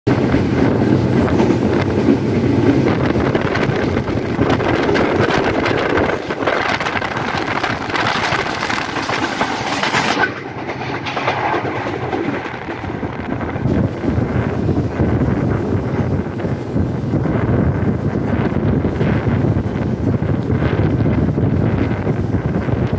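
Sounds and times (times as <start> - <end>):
train rumbling at speed: 0.0 - 22.9
wheels clattering over rail joints: 0.1 - 21.9.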